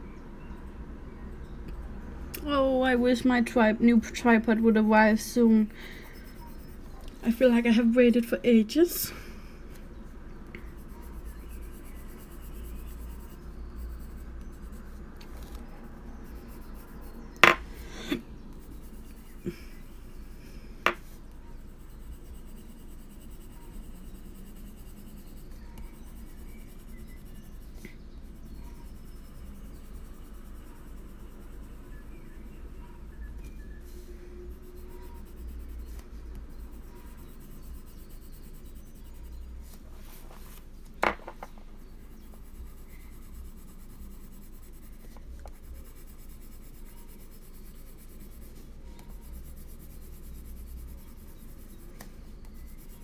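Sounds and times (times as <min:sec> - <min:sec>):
pencil scratching on paper: 0:03.0 - 0:08.8, 0:10.6 - 0:40.6, 0:41.8 - 0:53.0.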